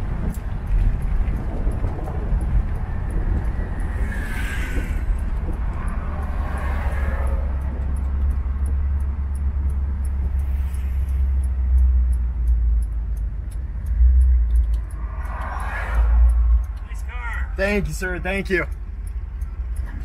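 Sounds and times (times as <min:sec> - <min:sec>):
car engine rumbling: 0:00.0 - 0:20.0
road and wind noise: 0:00.0 - 0:20.0.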